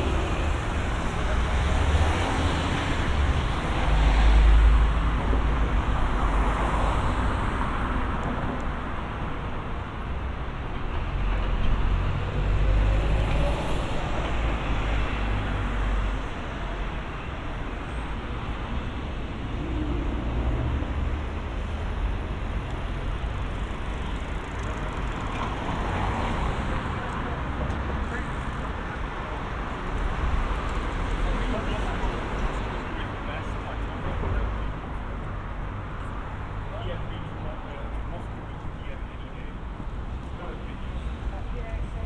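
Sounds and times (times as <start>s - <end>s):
traffic rumble: 0.0s - 42.0s.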